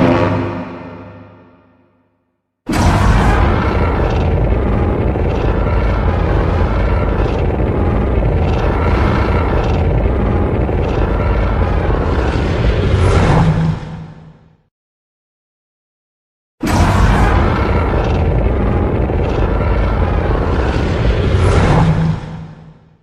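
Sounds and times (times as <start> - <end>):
loud rumbling sound effect: 0.0 - 2.0, 2.7 - 14.5, 16.6 - 23.0.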